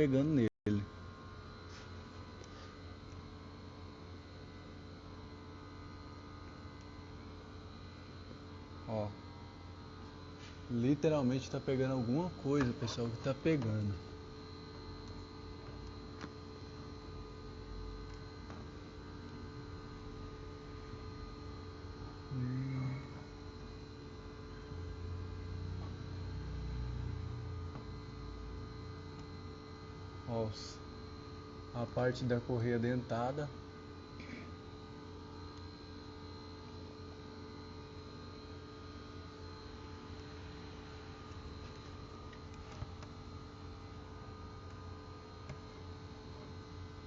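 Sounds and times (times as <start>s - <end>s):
electrical hum: 0.0s - 47.0s.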